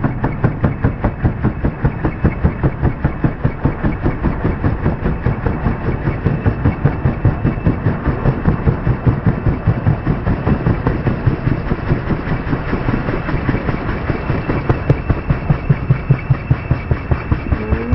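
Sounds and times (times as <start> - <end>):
helicopter engine noise: 0.0 - 17.9
helicopter rotor blades beating: 0.0 - 17.9.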